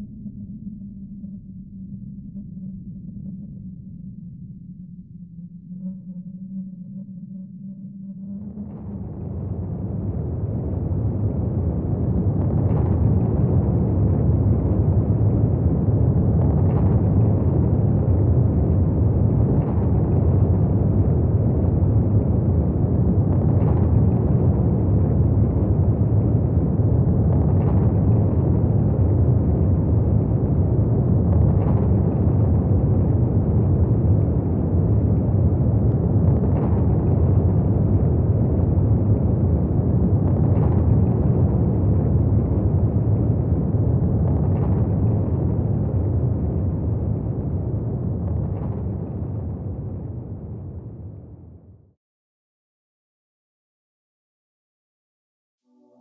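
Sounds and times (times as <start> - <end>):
deep rumbling noise: 0.0 - 52.0.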